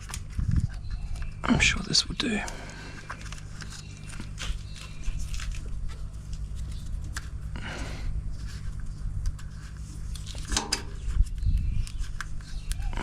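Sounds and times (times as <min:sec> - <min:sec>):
clicks and rustles of wiring handling: 0:00.0 - 0:07.5, 0:08.4 - 0:13.0
steady low rumble: 0:00.0 - 0:13.0.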